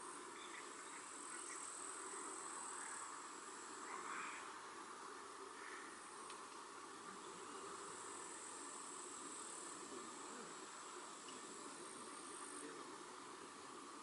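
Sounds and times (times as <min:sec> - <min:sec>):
insects trilling: 0:00.0 - 0:14.0
outdoor background hiss: 0:00.0 - 0:14.0.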